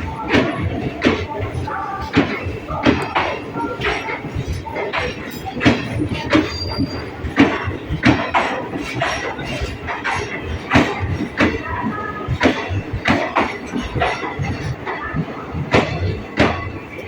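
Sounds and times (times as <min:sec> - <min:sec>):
train wheels clicking over rail joints: 0:00.0 - 0:17.0.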